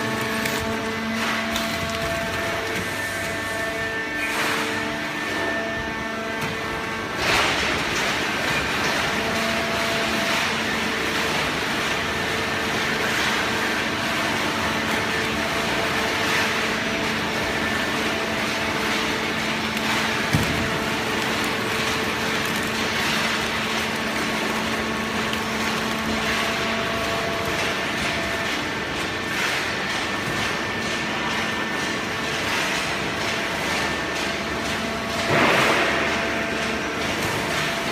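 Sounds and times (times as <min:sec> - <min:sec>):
hydraulic baler running: 0:00.0 - 0:37.9.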